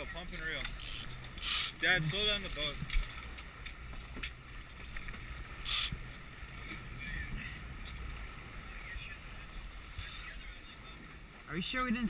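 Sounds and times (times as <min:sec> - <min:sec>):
boat engine running: 0:00.0 - 0:12.0
water noise: 0:00.0 - 0:12.0
wind: 0:00.0 - 0:12.0.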